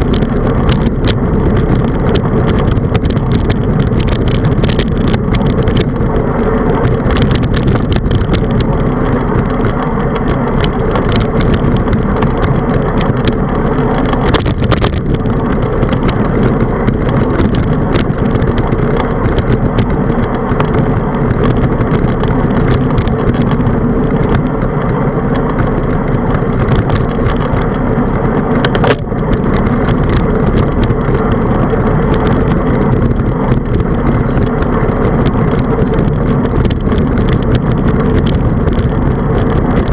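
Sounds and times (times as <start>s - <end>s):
bicycle clicks and rattles: 0.0s - 39.9s
road vibration: 0.0s - 39.9s
wind rumble on microphone: 0.0s - 39.9s.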